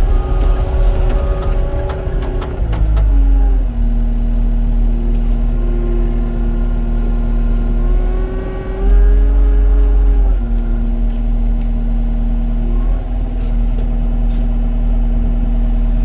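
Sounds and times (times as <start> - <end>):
diesel engine under hydraulic load: 0.0 - 16.0.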